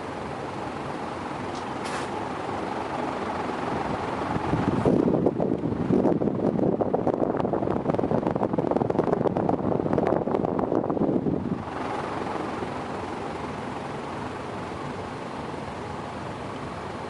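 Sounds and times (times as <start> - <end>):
ceiling fan air buffeting microphone: 0.0 - 17.0.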